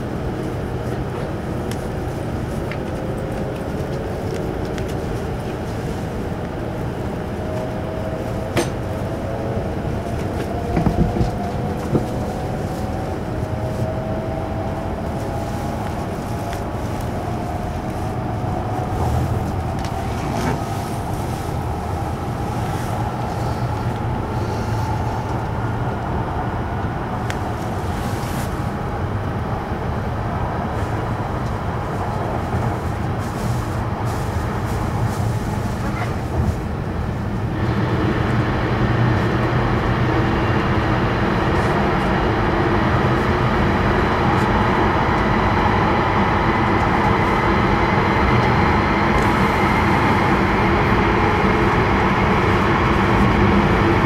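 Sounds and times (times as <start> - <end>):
train running rumble: 0.0 - 54.0.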